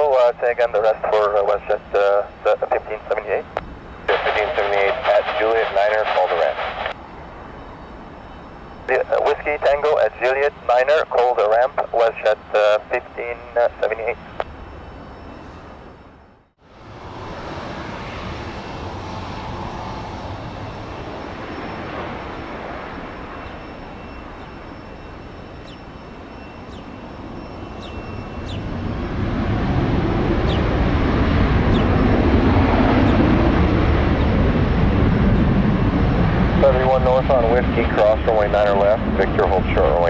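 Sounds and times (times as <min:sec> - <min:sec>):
jet engines roaring: 0:00.0 - 0:15.9, 0:16.6 - 0:40.0.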